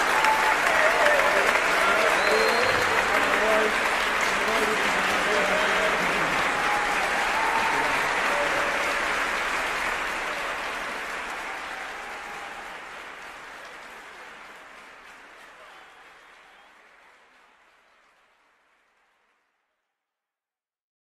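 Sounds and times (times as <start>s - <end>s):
audience applause: 0.0s - 19.7s.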